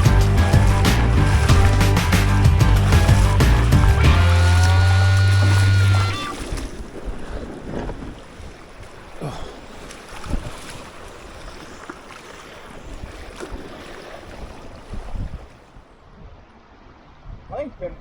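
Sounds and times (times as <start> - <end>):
wind buffeting microphone: 0.0 - 11.8, 12.6 - 17.6.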